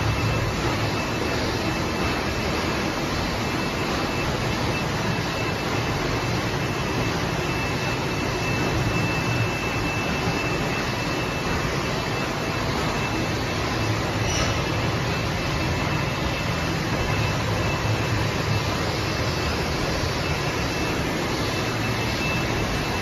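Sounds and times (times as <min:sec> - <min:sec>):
bottling machinery running: 0:00.0 - 0:23.0
faint high whine: 0:00.0 - 0:23.0.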